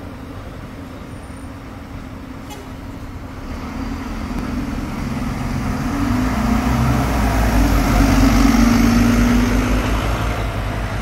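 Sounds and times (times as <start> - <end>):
bus engine rumble: 0.0 - 11.0
second bus approaching: 0.0 - 11.0.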